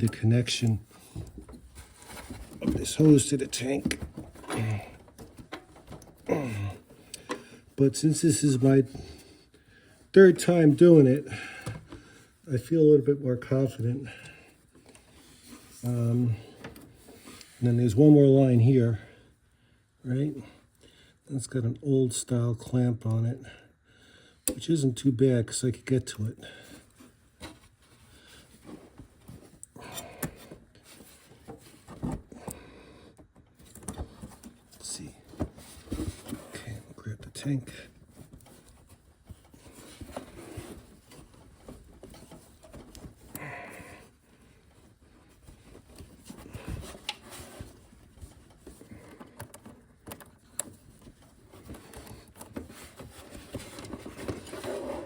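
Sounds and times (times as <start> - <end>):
hands handling hoses and clamps: 0.0 - 9.3, 10.1 - 18.2, 26.2 - 55.0.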